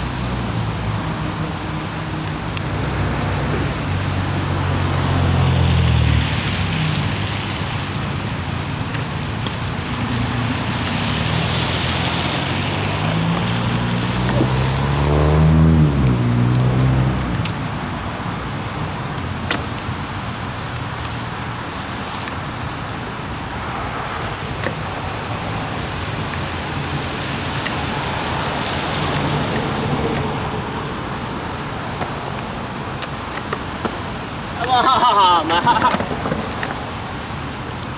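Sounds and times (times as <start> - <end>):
vehicle passing by: 0.0 - 8.9, 9.6 - 19.0, 23.6 - 37.3
rain and wet road noise: 0.0 - 37.9.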